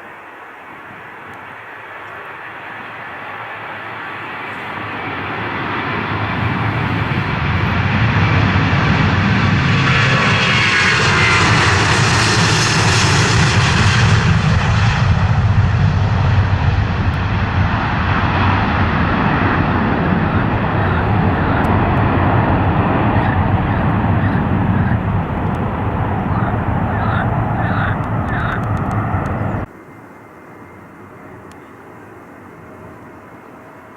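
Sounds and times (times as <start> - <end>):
aircraft passing by: 0.5 - 33.9.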